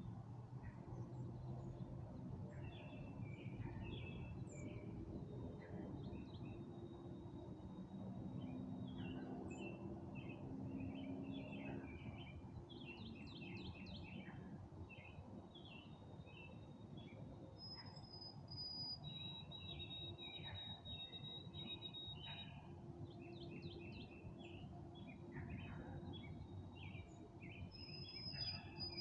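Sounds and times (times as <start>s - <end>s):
songbirds chirping: 0.4s - 29.0s.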